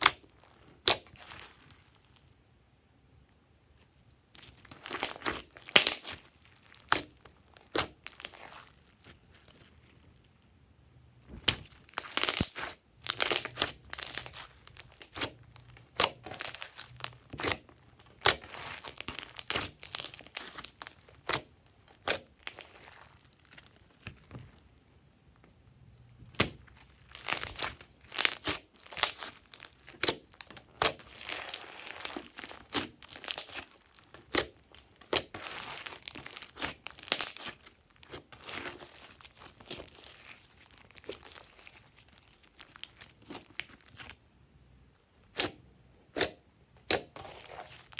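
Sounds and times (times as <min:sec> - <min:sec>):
slime popping and crackling: 0:00.0 - 0:02.2, 0:04.4 - 0:09.6, 0:11.4 - 0:24.6, 0:26.3 - 0:44.2, 0:45.2 - 0:47.9.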